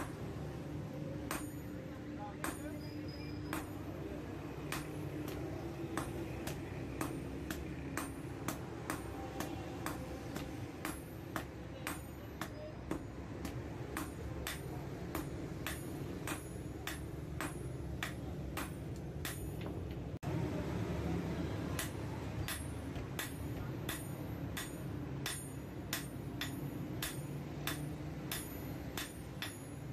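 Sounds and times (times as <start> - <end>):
hammer ringing on anvil: 1.0 - 19.9, 21.8 - 29.9.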